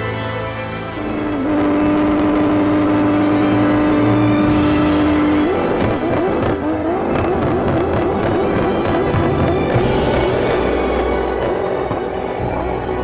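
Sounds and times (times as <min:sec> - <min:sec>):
background music: 0:00.0 - 0:13.0
car engine revving: 0:00.9 - 0:13.0.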